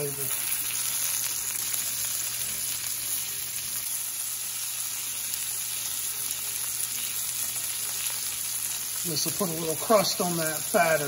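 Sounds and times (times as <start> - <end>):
steak sizzling on griddle: 0.0 - 11.0.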